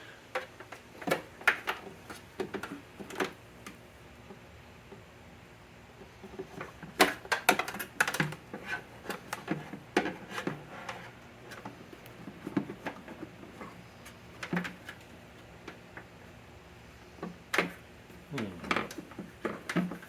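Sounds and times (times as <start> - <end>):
parts clicking and knocking: 0.3 - 5.1, 6.0 - 16.2, 17.1 - 20.0.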